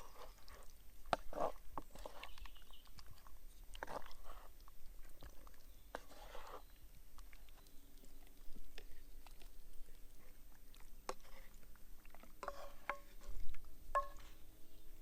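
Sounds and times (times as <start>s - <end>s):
wet chewing sounds: 0.0s - 14.5s.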